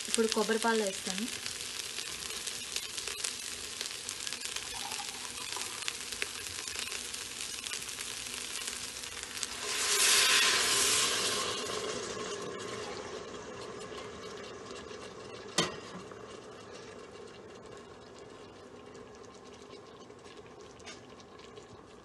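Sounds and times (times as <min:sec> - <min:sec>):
rice and vegetables sizzling: 0:00.0 - 0:22.0
liquid pouring: 0:01.6 - 0:22.0.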